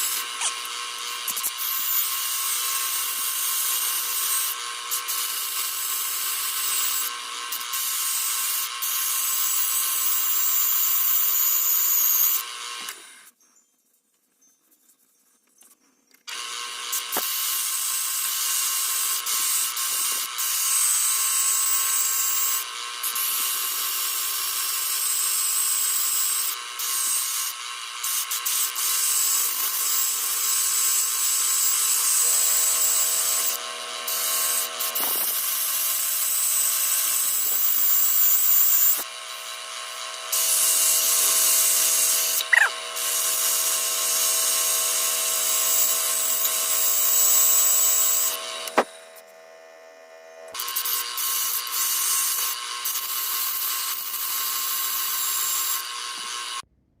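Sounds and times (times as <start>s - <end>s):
drill grinding hiss: 0.0s - 13.3s, 16.3s - 49.3s, 50.5s - 56.6s.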